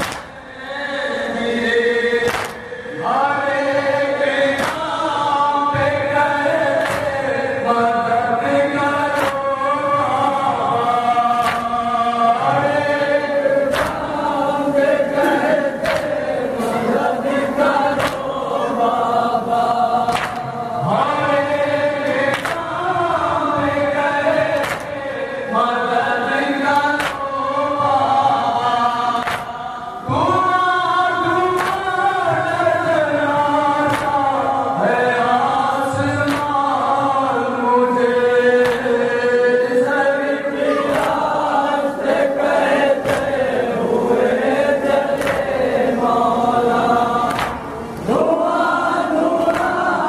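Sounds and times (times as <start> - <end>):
men chanting in unison: 0.0 - 50.0.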